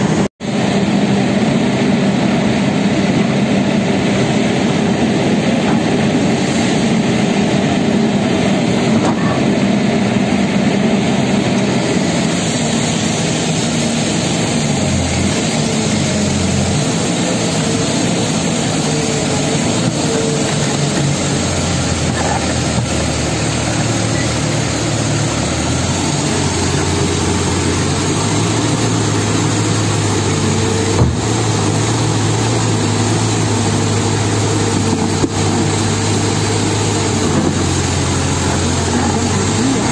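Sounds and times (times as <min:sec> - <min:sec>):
excavator diesel engines running: 0:00.0 - 0:39.9.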